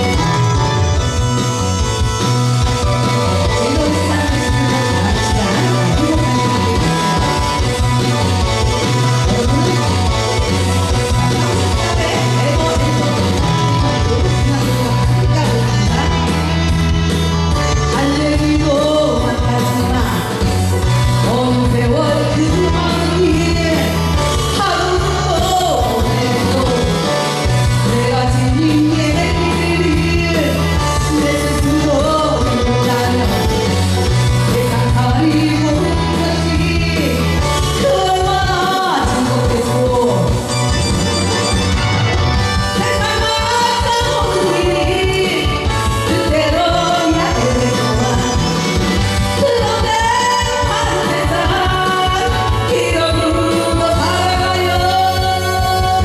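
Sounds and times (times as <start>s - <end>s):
woman singing rock song: 0.0s - 40.5s, 42.5s - 56.0s
band accompaniment: 0.0s - 56.0s
repeating bass line: 0.0s - 56.0s.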